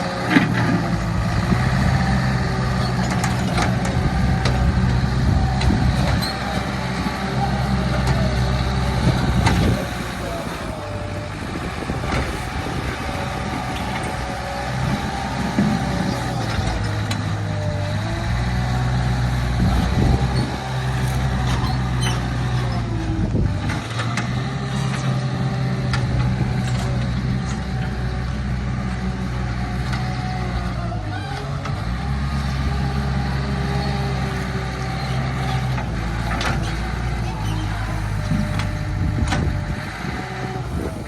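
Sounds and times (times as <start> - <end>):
bulldozer diesel engine working: 0.0 - 41.0.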